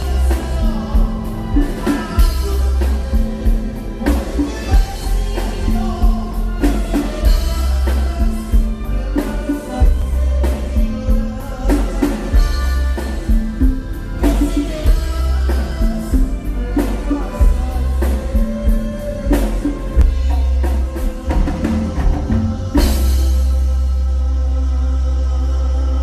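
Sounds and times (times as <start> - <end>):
electric bass: 0.0 - 26.0
live band playing amplified: 0.0 - 26.0.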